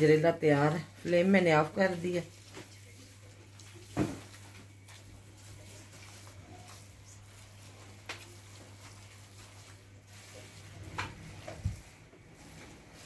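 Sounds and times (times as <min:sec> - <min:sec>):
spatula stirring thick food in pan: 0:00.8 - 0:13.0.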